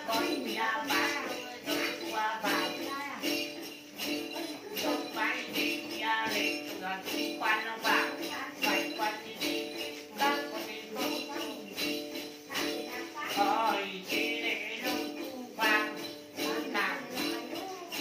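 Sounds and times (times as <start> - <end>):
jingle bells shaken: 0.0 - 18.0.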